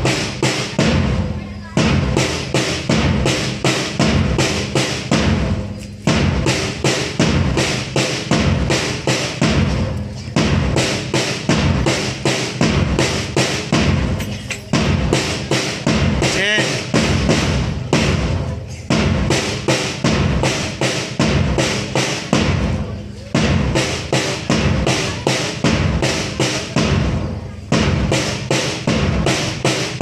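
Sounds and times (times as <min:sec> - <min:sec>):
large drum beating march rhythm: 0:00.0 - 0:30.0.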